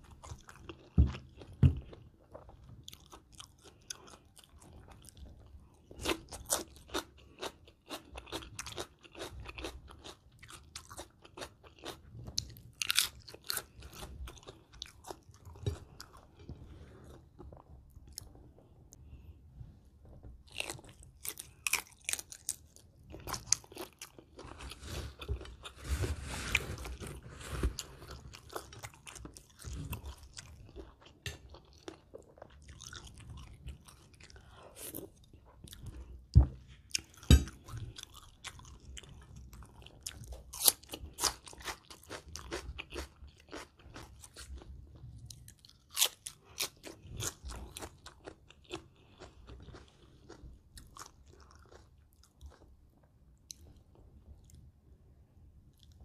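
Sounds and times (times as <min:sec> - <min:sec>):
chewing and crunching: 0:00.0 - 0:19.4, 0:20.4 - 0:54.6.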